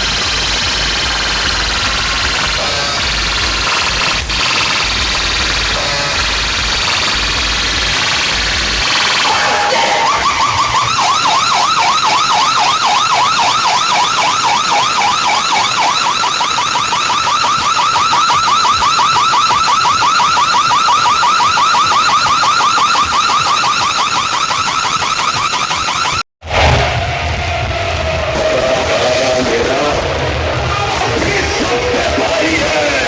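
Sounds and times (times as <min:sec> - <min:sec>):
warbling siren effect: 0:00.0 - 0:33.0.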